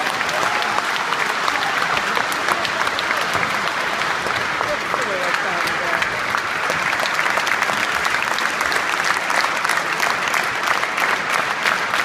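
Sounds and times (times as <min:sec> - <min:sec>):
audience applauding: 0:00.0 - 0:12.0
close hands clapping: 0:00.0 - 0:12.0.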